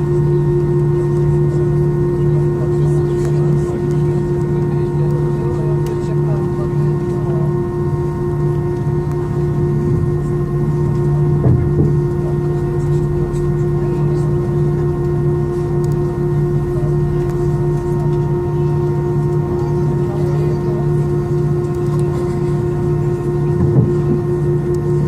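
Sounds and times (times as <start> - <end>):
jet engines idling in cabin: 0.0 - 25.0.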